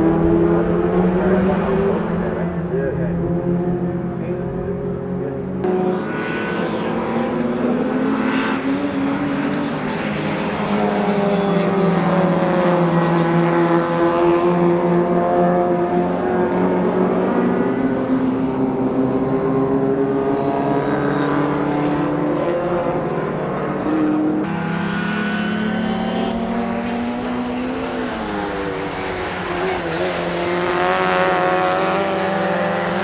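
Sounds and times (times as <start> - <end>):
racing car engines revving: 0.0 - 33.0.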